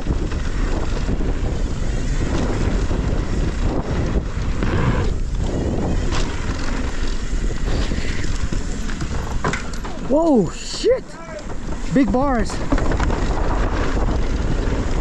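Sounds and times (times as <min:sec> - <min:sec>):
bike knocks and rattles: 0:00.0 - 0:15.0
tyres rumbling on dirt: 0:00.0 - 0:15.0
wind rushing over microphone: 0:00.0 - 0:15.0.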